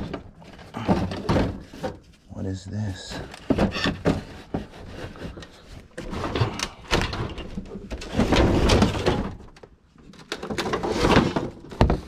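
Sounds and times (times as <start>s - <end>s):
wooden boards scraping and knocking: 0.0s - 12.0s.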